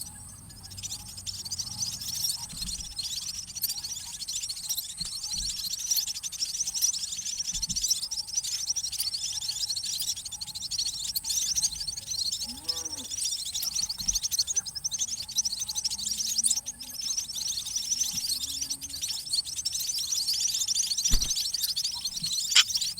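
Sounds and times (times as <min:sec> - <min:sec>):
small birds chirping rapidly: 0:00.0 - 0:22.9.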